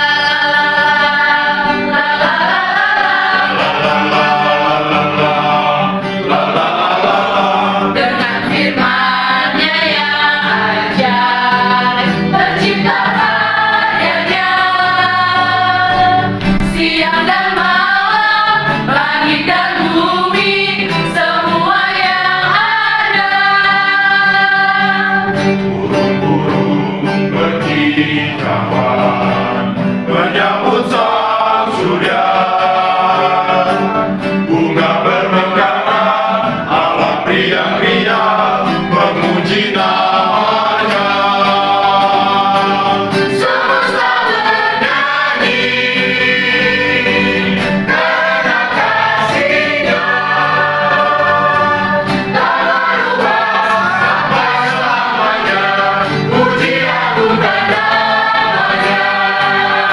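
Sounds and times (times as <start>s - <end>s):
group singing worship song: 0.0s - 59.9s
strummed acoustic guitar: 0.0s - 59.9s.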